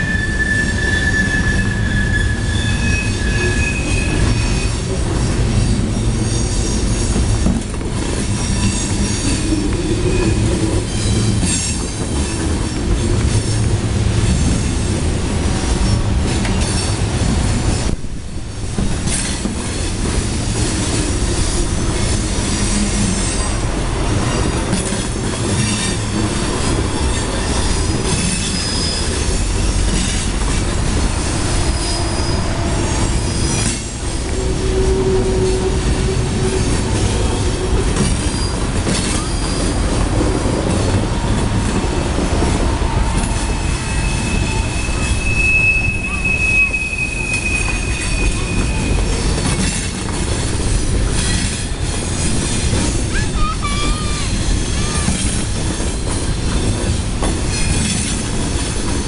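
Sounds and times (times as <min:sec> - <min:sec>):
train wheels squealing: 0:00.0 - 0:07.6, 0:08.2 - 0:14.9, 0:19.0 - 0:59.0
freight train wheels rumbling on rail: 0:00.0 - 0:59.0.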